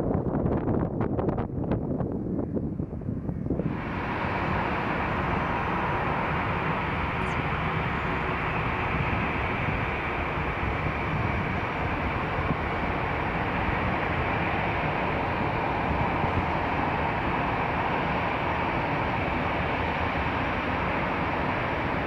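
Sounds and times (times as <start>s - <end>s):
distant jet engines: 0.0s - 22.0s.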